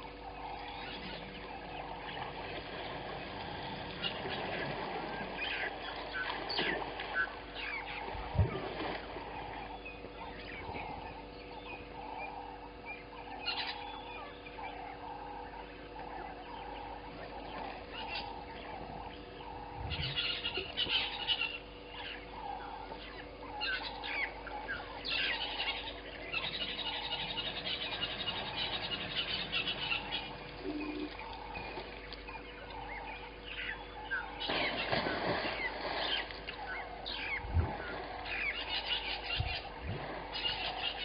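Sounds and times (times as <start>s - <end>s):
wild birds calling and chirping: 0.0s - 41.0s.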